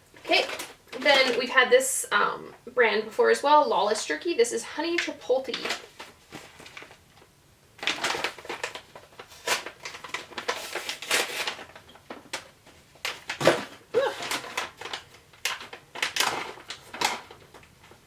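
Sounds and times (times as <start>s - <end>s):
plastic bag crinkling: 0.0s - 1.8s, 5.0s - 18.0s.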